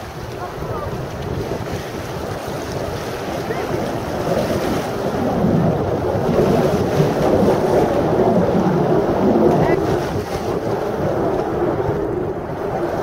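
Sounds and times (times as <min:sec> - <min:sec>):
jets roaring overhead: 0:00.0 - 0:13.0.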